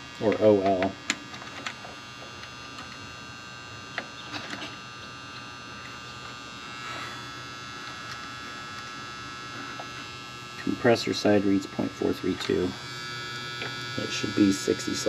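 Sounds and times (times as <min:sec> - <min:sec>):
steady electrical hum: 0:00.0 - 0:15.0
meter probes clicking: 0:00.2 - 0:03.2, 0:03.9 - 0:06.5, 0:07.8 - 0:15.0.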